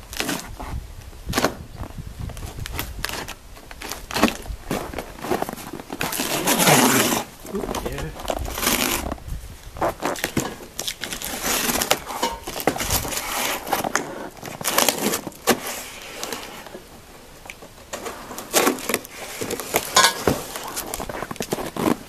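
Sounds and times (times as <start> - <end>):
cardboard ripping and rustling: 0.1 - 1.6, 2.3 - 16.8, 18.0 - 22.0.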